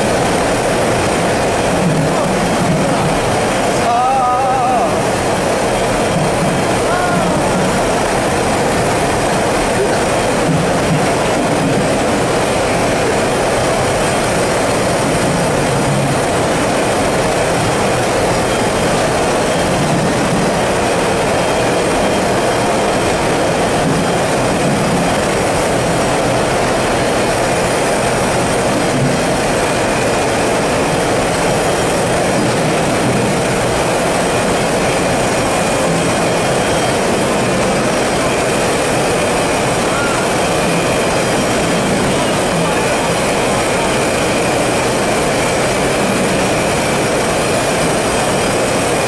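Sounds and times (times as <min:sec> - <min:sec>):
processing line machinery running: 0:00.0 - 0:49.0.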